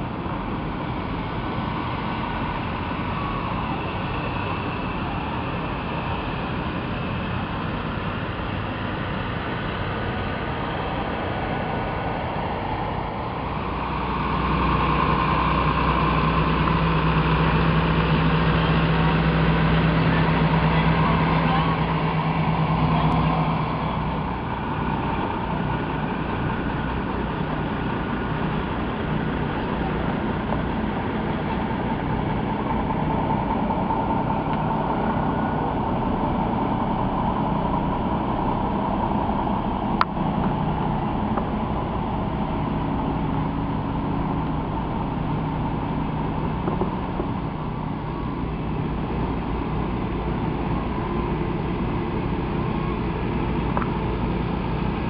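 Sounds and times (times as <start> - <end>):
tractor engine: 0.0 - 55.0
truck diesel engine drone: 0.0 - 55.0.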